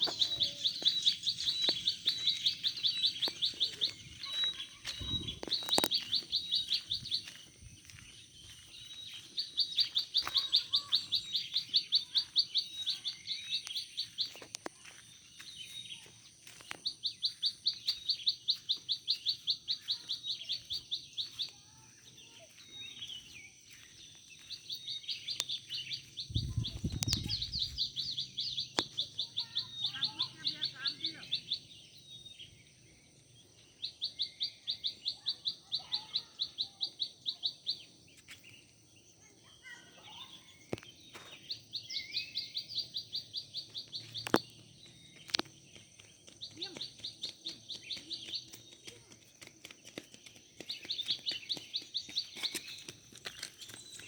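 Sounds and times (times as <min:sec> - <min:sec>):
soft bird chirps: 0:00.0 - 0:54.0.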